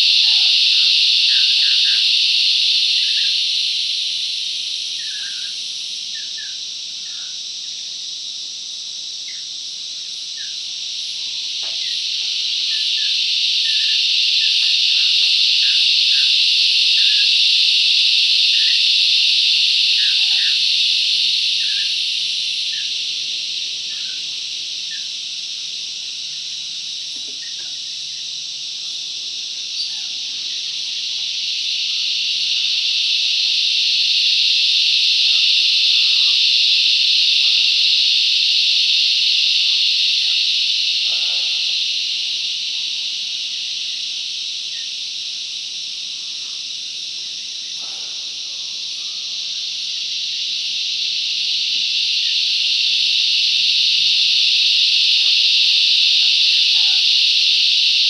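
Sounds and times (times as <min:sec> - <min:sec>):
cicadas droning: 0:00.0 - 0:58.0.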